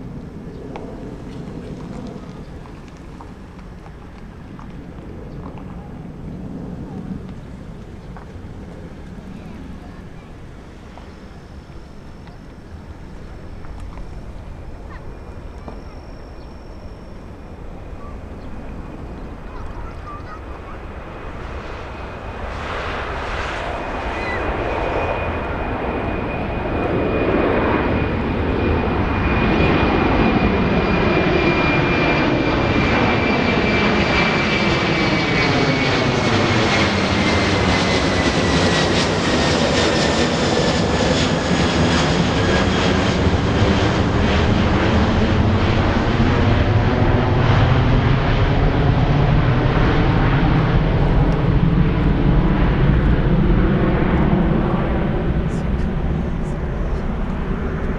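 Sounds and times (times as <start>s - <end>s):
high jet engine whine: 0.0s - 57.9s
jet airliner passing overhead: 0.0s - 57.9s.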